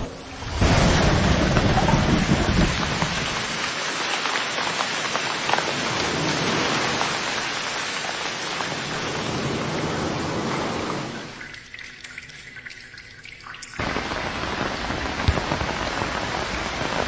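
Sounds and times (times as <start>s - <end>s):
heavy rain downpour: 0.0s - 11.4s, 13.8s - 17.0s.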